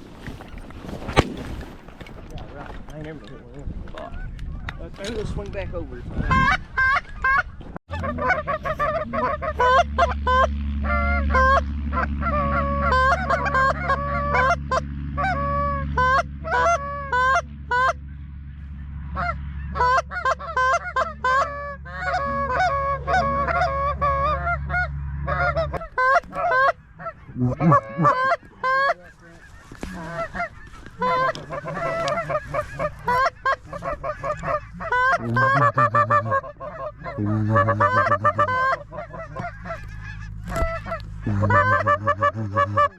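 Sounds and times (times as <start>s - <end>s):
geese honking: 6.2s - 42.9s
low hum: 6.3s - 42.9s.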